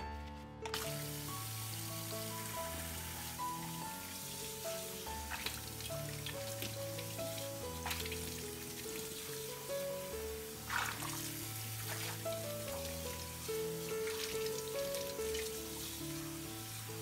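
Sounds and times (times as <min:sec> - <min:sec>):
light background music: 0:00.0 - 0:17.0
tap water running into sink: 0:00.7 - 0:17.0.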